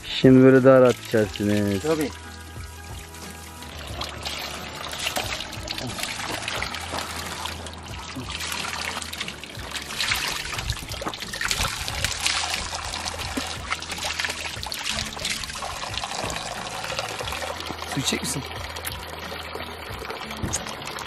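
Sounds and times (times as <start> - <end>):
hands washing in water: 0.0 - 21.0
water splashing into stone trough: 0.0 - 21.0.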